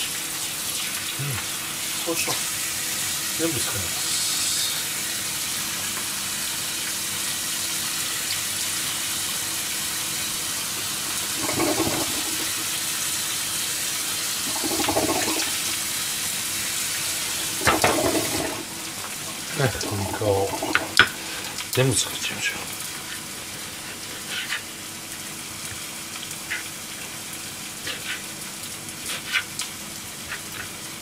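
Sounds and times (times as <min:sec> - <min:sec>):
food sizzling in a hot pan: 0:00.0 - 0:21.7, 0:22.5 - 0:31.0.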